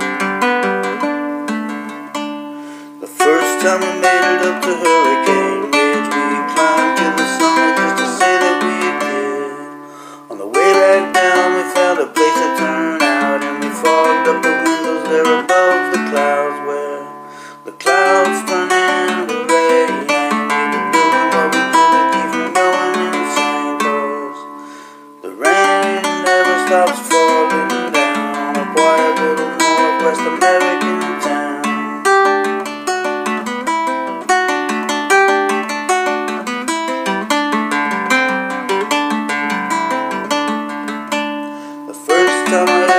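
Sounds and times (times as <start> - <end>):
acoustic guitar playing: 0.0 - 42.9.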